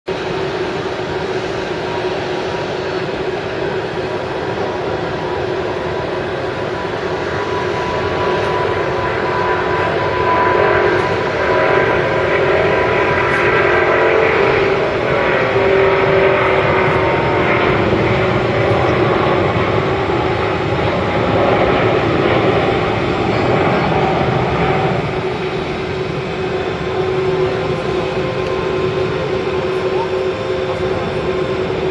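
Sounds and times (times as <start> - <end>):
jet engines roaring with whine: 0.1 - 31.9.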